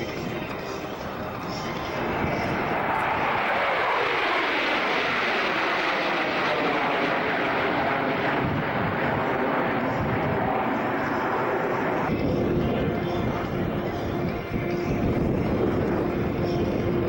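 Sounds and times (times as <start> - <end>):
airplane engine roar: 0.0 - 17.0.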